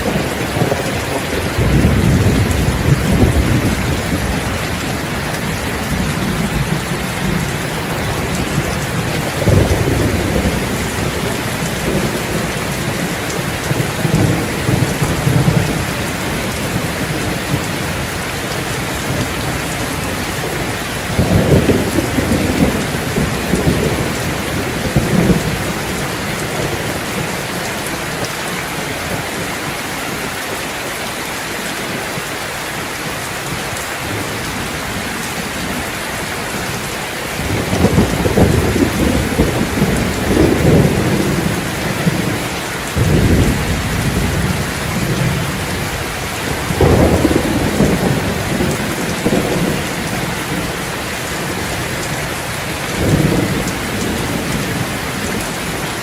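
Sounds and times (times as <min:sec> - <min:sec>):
thunder rumbling: 0:00.0 - 0:30.7, 0:33.0 - 0:56.0
heavy rain: 0:00.0 - 0:56.0.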